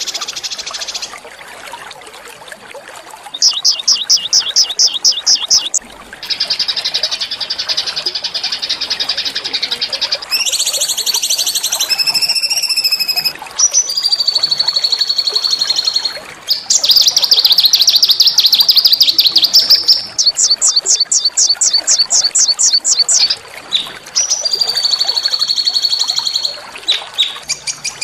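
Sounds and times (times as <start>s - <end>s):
songbird trilling: 3.3s - 5.8s, 6.7s - 28.0s.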